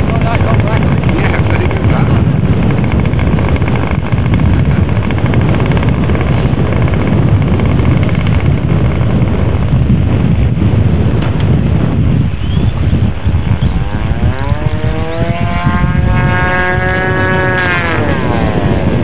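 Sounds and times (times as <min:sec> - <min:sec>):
model aircraft engine buzzing: 0:00.0 - 0:19.0.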